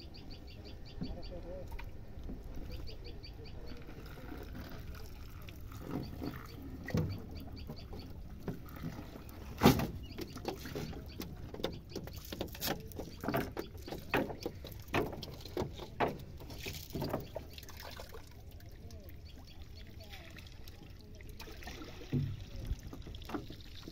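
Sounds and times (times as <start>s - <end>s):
water dripping and splashing: 3.7s - 23.9s.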